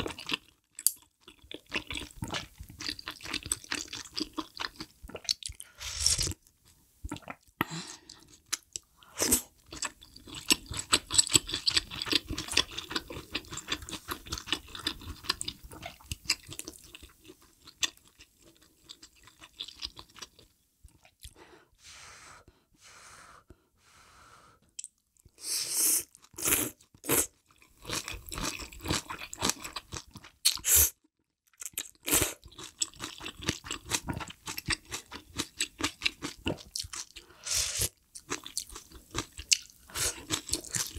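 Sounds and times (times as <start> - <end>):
close chewing and crunching: 0.0 - 6.5, 7.1 - 21.4, 26.0 - 30.6, 31.5 - 40.9.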